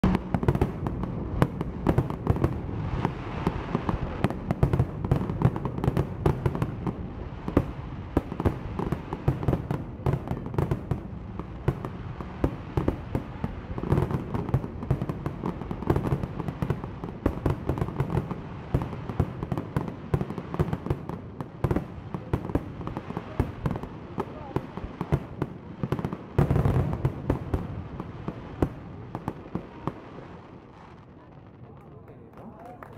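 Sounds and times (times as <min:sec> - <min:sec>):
firework bangs and crackles: 0:00.0 - 0:32.9.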